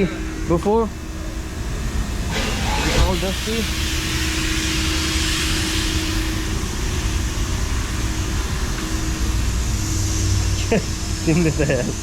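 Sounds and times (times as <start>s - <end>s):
constant hum: 0.0s - 12.0s
car wash machine hiss: 2.2s - 12.0s.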